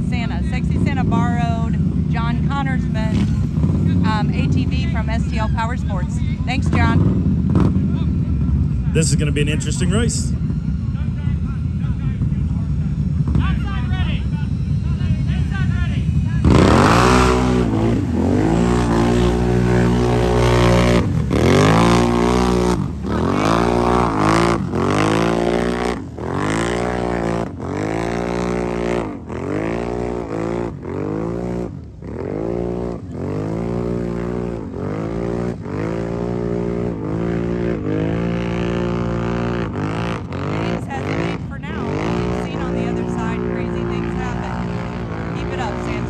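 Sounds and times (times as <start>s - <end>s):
atv engines revving: 0.0s - 46.0s.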